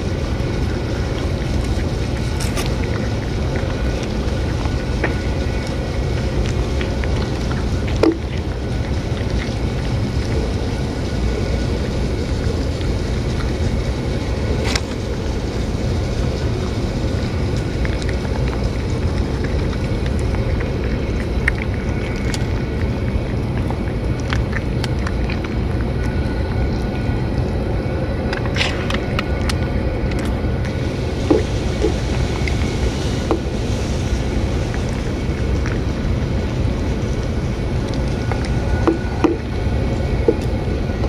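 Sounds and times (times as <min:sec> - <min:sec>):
cats chewing and licking: 0:00.0 - 0:41.0
low outdoor background rumble: 0:00.0 - 0:41.0.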